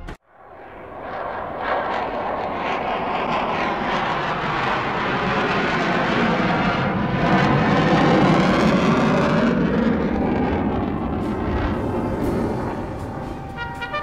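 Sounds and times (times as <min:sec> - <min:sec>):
airplane engine rushing: 0:00.0 - 0:14.0.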